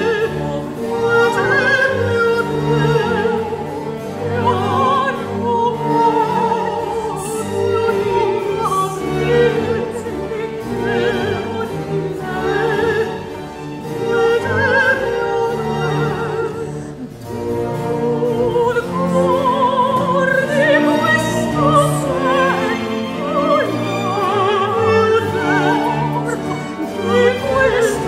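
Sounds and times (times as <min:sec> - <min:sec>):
two voices singing opera duet: 0:00.0 - 0:17.1, 0:17.8 - 0:28.0
orchestra playing: 0:00.0 - 0:28.0.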